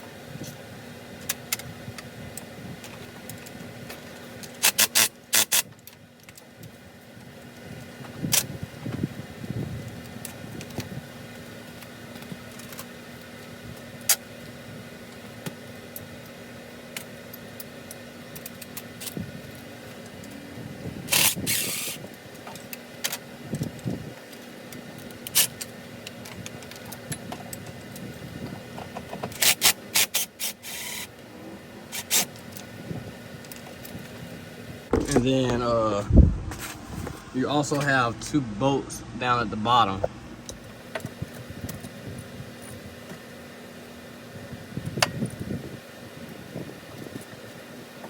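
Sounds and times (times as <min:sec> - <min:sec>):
steady low hum: 0:06.2 - 0:29.4, 0:30.0 - 0:46.8.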